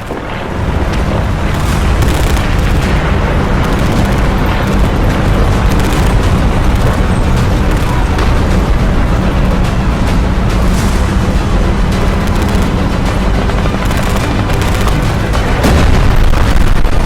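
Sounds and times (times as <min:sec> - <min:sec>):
rumbling explosions: 0:00.0 - 0:17.0.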